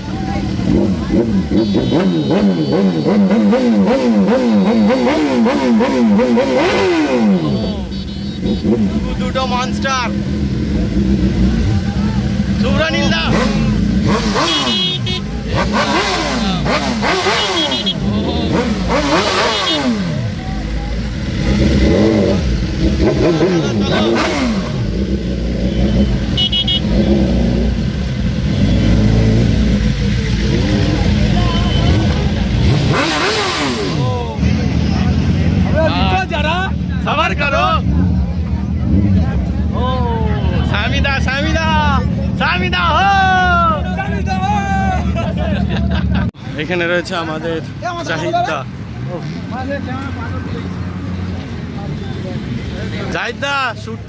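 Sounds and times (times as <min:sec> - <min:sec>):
motorcycle engine revving: 0:00.0 - 0:42.7, 0:48.5 - 0:53.5.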